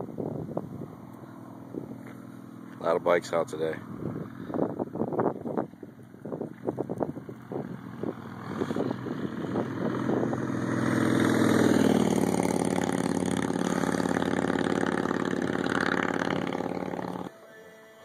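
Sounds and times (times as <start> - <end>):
motorcycle passing by: 0.0 - 17.3.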